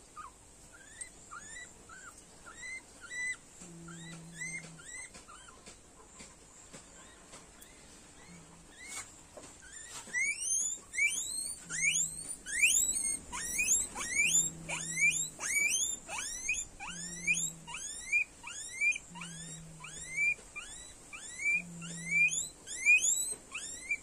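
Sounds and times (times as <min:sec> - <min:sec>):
guinea pig squealing: 0:00.0 - 0:05.7, 0:06.9 - 0:24.0.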